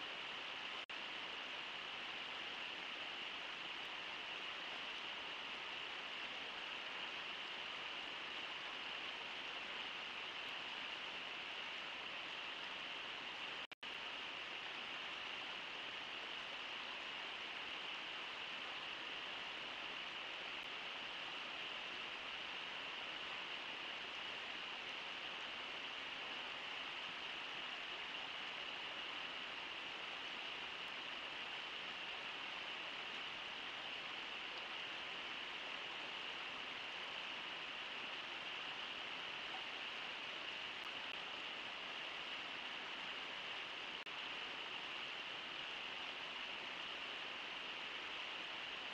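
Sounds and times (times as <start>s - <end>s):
river water rushing: 0.0s - 48.9s.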